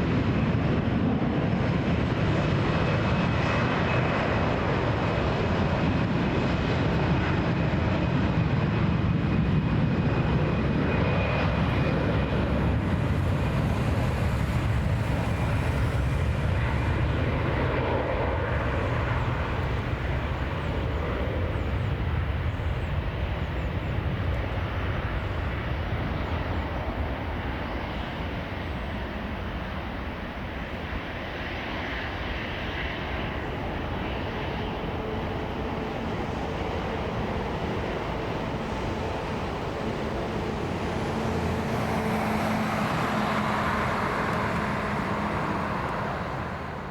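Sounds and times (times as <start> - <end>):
jet airliner engines rumbling: 0.0 - 46.9.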